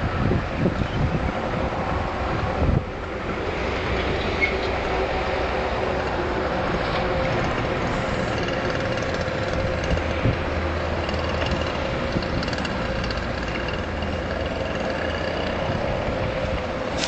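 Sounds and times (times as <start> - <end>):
water noise: 0.0 - 17.0
wind: 0.0 - 17.0
distant boat motor running: 0.2 - 17.0.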